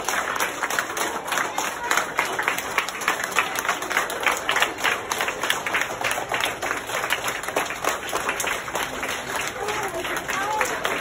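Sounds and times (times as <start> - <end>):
children applauding: 0.0 - 11.0.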